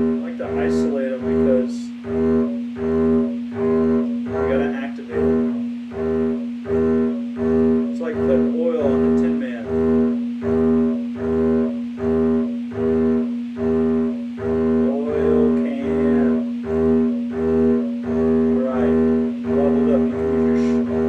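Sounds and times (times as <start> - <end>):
double bass bowed strokes: 0.0 - 21.0.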